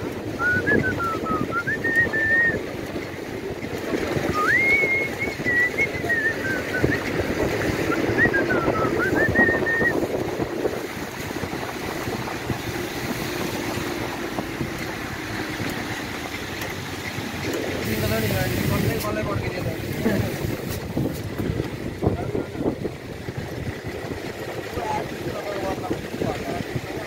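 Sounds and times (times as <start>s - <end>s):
truck engine running: 0.0s - 27.0s
truck rattling over rough road: 0.0s - 27.0s.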